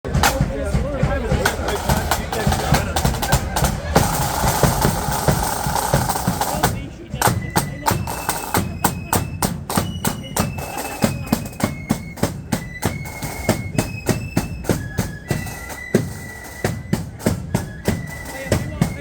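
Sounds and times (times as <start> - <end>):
bass drum beat: 0.1 - 15.4
snare drums: 0.1 - 19.0
high flute melody: 1.7 - 19.0.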